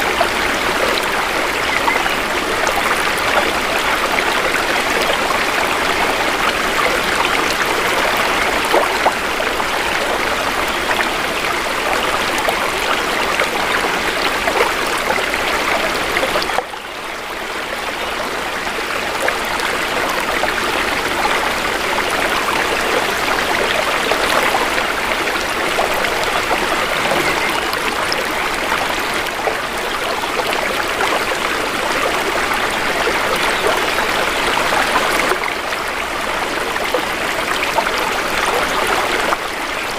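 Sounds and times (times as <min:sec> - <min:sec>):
river water flowing and babbling: 0:00.0 - 0:39.9.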